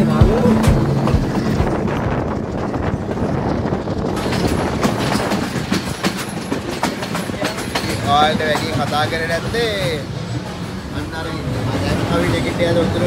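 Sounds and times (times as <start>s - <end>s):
train rumbling on track: 0.0s - 13.0s
wheels clacking over rail joints: 0.0s - 13.0s.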